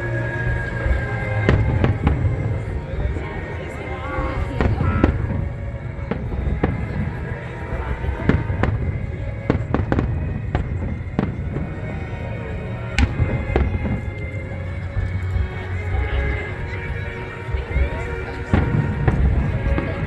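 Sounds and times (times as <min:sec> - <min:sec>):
low rumble: 0:00.0 - 0:20.0
fireworks bangs and crackles: 0:00.5 - 0:20.0.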